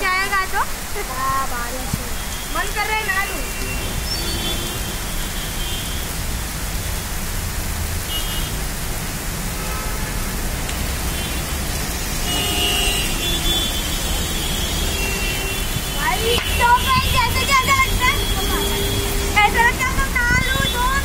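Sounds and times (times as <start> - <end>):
heavy rain splashing on pavement: 0.0 - 21.0.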